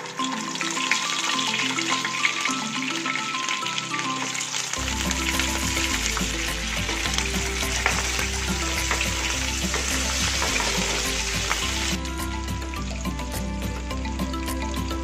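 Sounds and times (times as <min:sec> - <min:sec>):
fish sizzling in hot oil: 0:00.0 - 0:15.0
oil popping and crackling: 0:00.0 - 0:15.0.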